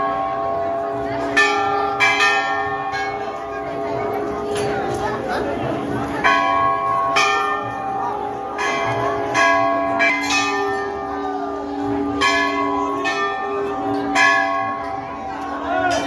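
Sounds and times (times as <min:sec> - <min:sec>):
brass bells ringing: 0:00.0 - 0:16.0.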